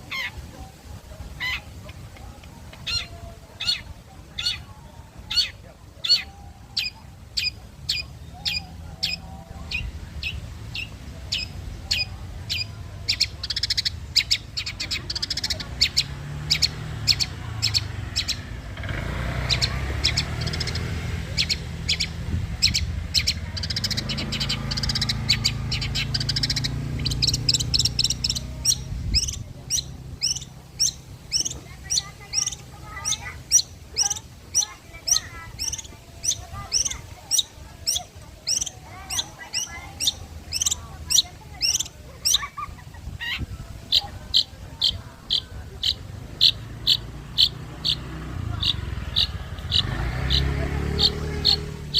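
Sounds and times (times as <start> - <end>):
bird sharp chirps: 5.3 - 51.9.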